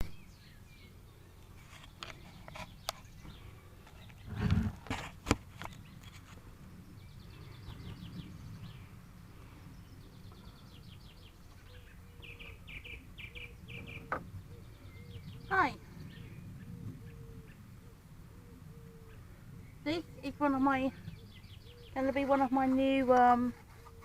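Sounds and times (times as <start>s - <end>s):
low outdoor rumble: 0.0s - 23.8s
birds singing: 0.0s - 24.0s.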